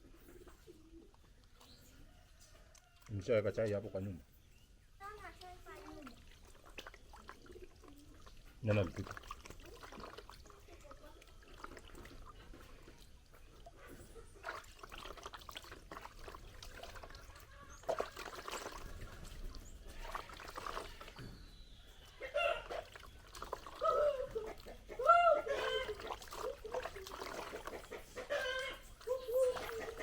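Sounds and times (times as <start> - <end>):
water pouring and trickling: 0.0 - 30.0
small water splashes: 0.9 - 4.2, 4.8 - 30.0.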